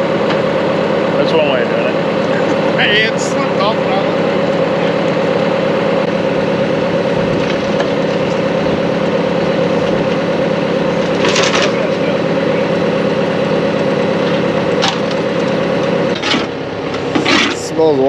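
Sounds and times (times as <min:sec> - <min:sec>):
engine running steadily: 0:00.0 - 0:18.0
grain auger unloading corn: 0:00.0 - 0:18.0.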